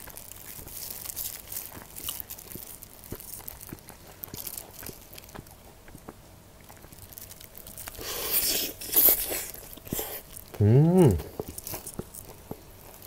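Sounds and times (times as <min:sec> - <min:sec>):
crisp crunching bites: 0:00.0 - 0:13.0.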